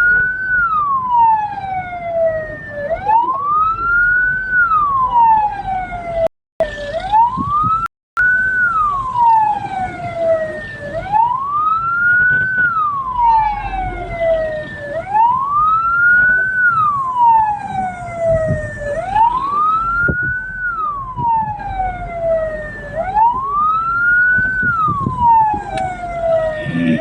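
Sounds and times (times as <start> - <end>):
moving vehicle rumble: 0.0 - 27.0
siren wailing: 0.0 - 27.0.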